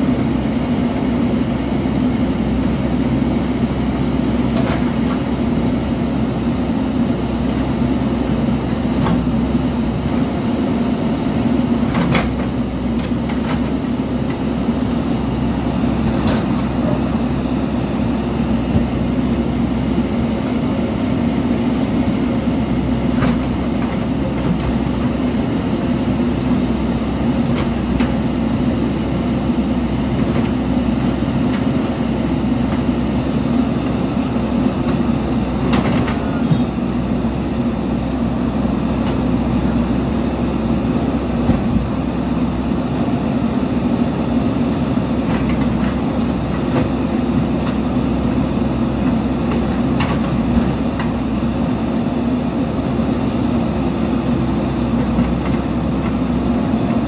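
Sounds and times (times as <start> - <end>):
backhoe digging soil: 0.0 - 57.0
diesel engine running under load: 0.0 - 57.0.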